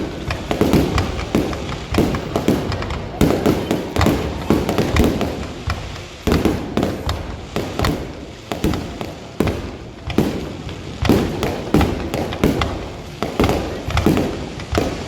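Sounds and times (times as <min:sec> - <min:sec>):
fireworks exploding with crackling: 0:00.0 - 0:15.0.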